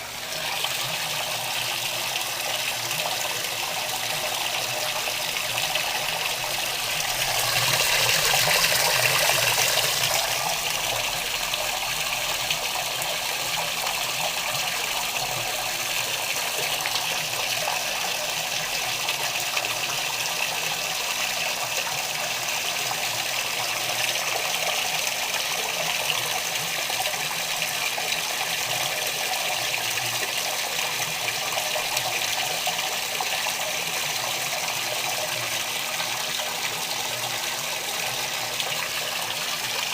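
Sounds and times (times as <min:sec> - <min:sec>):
water rushing in washing machine: 0:00.0 - 0:39.9.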